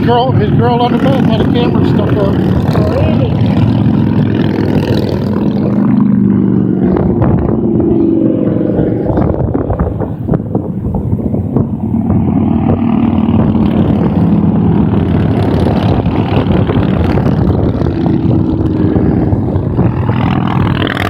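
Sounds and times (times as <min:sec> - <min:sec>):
motorcycles going by: 0:00.0 - 0:21.0.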